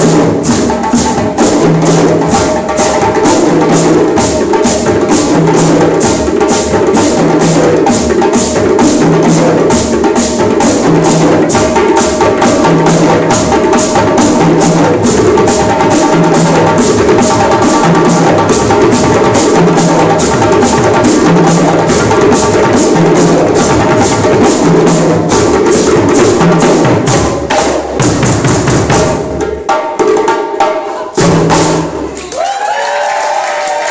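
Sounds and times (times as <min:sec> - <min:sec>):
djembe ensemble drumming: 0:00.0 - 0:32.5.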